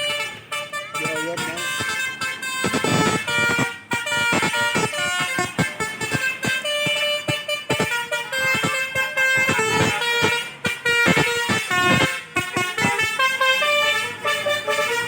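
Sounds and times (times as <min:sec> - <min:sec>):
bus horn playing a tune: 0:00.0 - 0:15.0.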